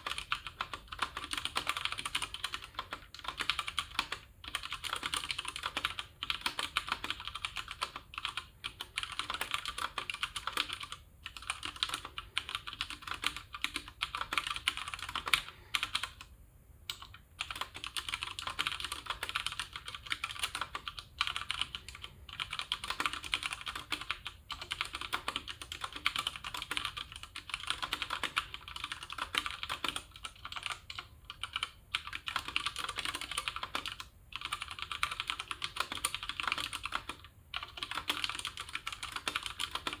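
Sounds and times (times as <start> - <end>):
mechanical keyboard typing: 0.0 - 16.3, 16.9 - 40.0.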